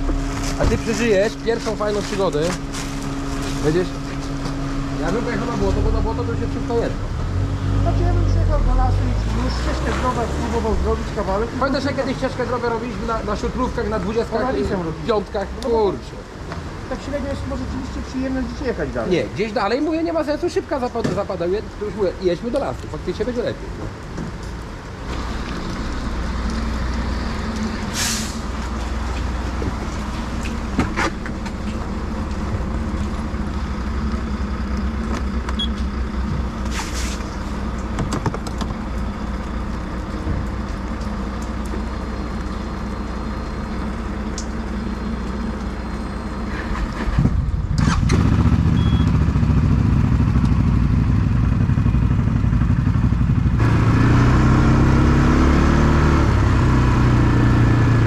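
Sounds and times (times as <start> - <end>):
atv engines idling and revving: 0.0 - 58.0.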